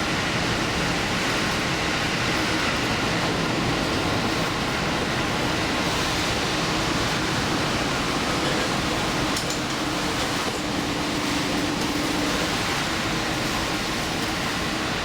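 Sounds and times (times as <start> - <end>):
train running heard from inside: 0.0 - 15.0.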